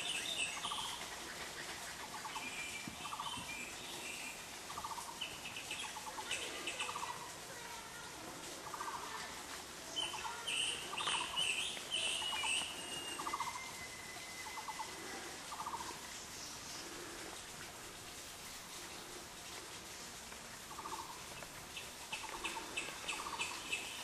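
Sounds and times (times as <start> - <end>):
rapid rattling bird trills: 0.0 - 7.4, 9.9 - 24.0.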